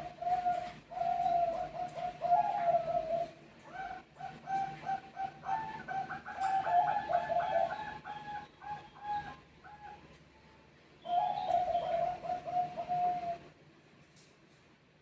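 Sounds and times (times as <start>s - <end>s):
doves cooing: 0.0s - 10.2s, 11.0s - 13.6s.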